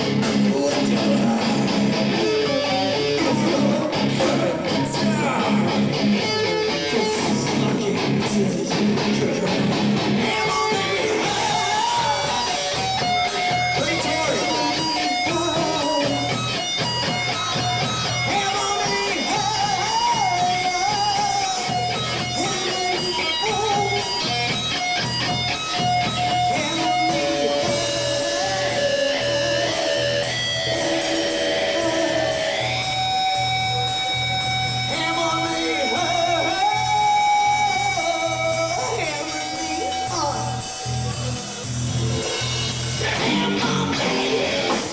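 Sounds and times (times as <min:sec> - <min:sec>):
electric guitar melody: 0:00.0 - 0:44.9
steady rock beat: 0:00.0 - 0:44.9.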